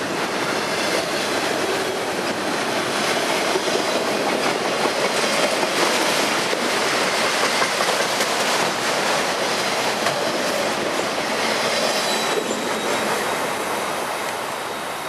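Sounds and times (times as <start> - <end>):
steel wheels on track: 0.2 - 13.6.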